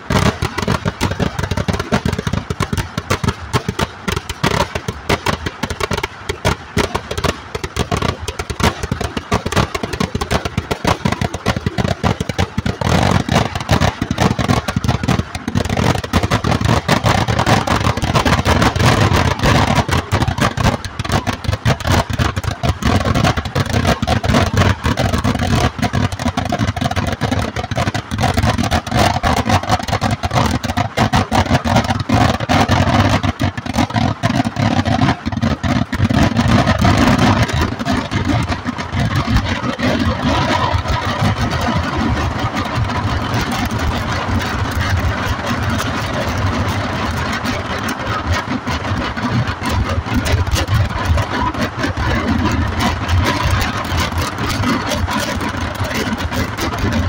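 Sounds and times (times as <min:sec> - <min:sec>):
firecrackers crackling rapidly: 0:00.0 - 0:57.0.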